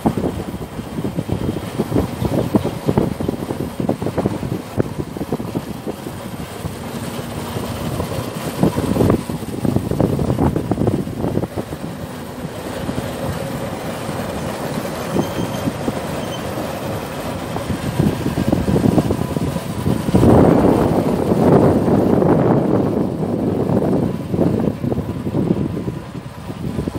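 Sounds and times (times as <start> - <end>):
wind rumbling on microphone: 0.0 - 26.9.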